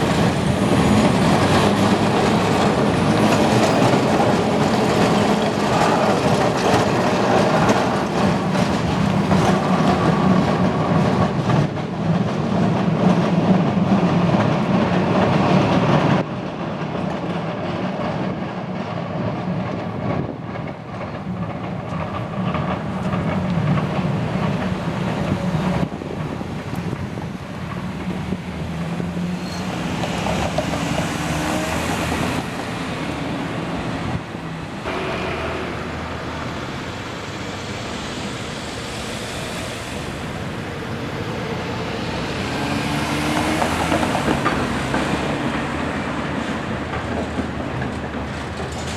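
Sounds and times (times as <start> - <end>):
streetcar rumbling on rails: 0.0 - 48.9.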